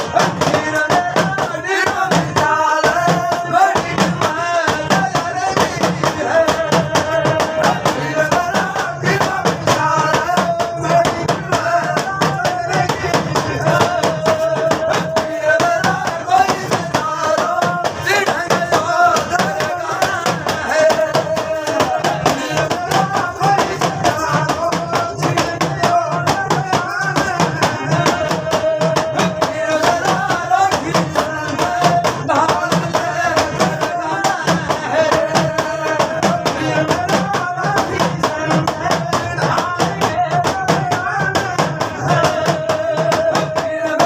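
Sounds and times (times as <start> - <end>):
fast percussion beat: 0.0 - 44.0
people singing folk song: 0.0 - 44.0.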